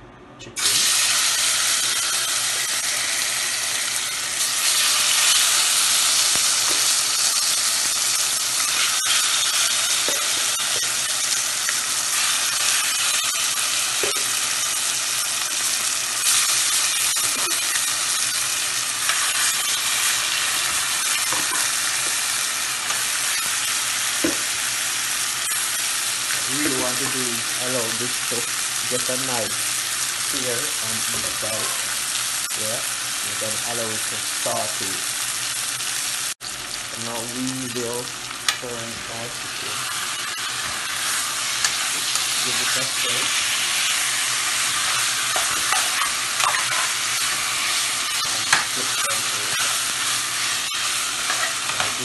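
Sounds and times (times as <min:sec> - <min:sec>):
chicken sizzling in oil: 0:00.6 - 0:52.0.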